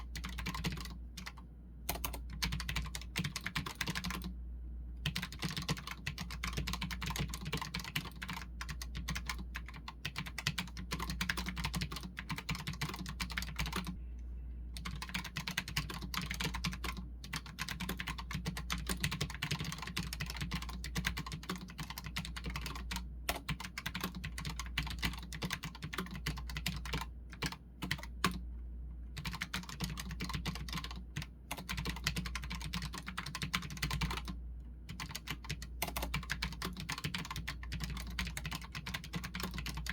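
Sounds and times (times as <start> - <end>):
mechanical keyboard typing: 0.0 - 4.3, 5.0 - 14.0, 14.8 - 28.4, 29.1 - 39.9.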